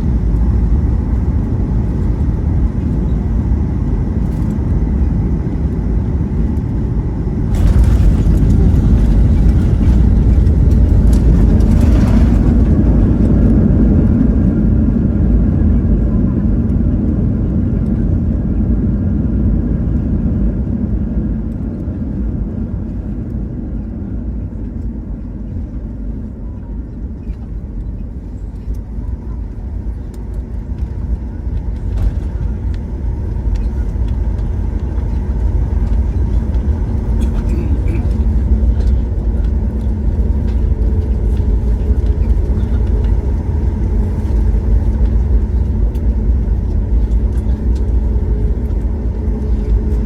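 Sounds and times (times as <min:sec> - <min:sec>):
jet engine roar: 0:00.0 - 0:23.6, 0:26.4 - 0:50.0
wheels rumbling on runway: 0:00.0 - 0:50.0.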